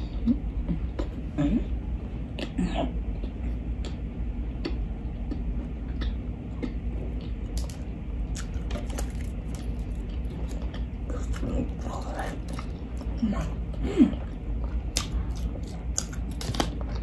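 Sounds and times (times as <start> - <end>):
low steady hum: 0.0 - 17.0
chewing with wet clicks: 2.4 - 13.2, 14.2 - 17.0.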